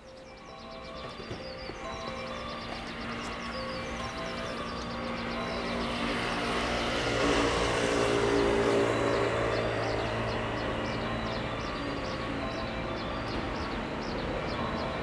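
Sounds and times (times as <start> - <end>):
electric train rumble and motor hum: 0.0 - 15.0.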